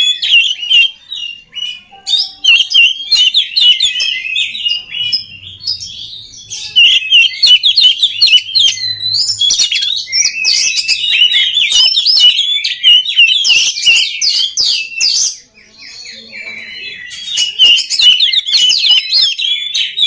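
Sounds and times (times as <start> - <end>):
bird singing varied chirps: 0.0 - 20.0.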